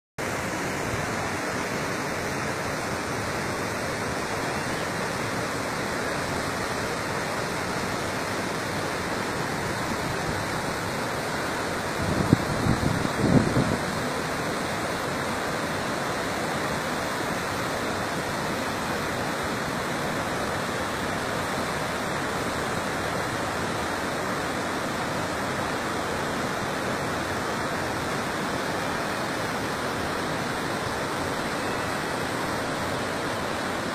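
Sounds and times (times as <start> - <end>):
waterfall rushing over rocks: 0.2 - 33.9.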